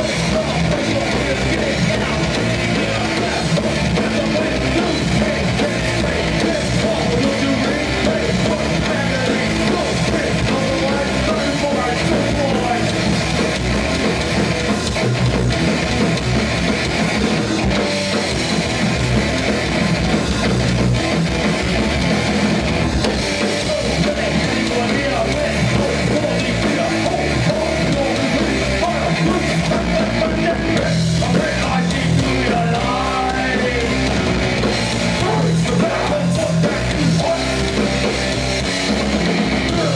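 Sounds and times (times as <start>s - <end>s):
drums: 0.0s - 39.9s
electric guitars: 0.0s - 39.9s.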